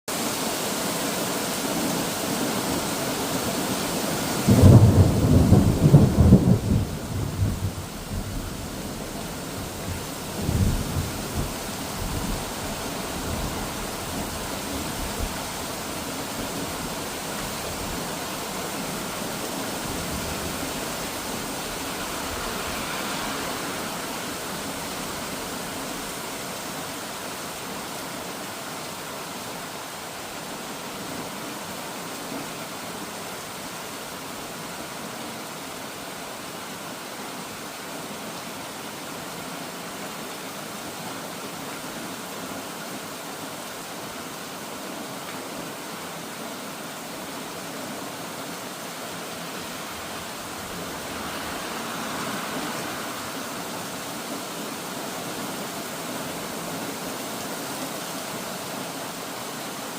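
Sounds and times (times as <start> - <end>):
rushing flowing water: 0.1 - 59.9.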